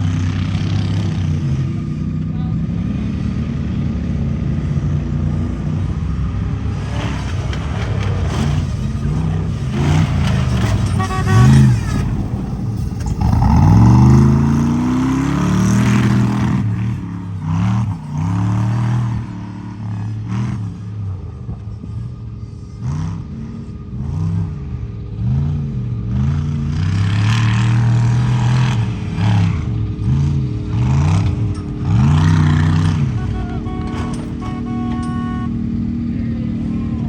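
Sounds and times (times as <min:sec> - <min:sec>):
truck engine revving: 0:00.0 - 0:37.0.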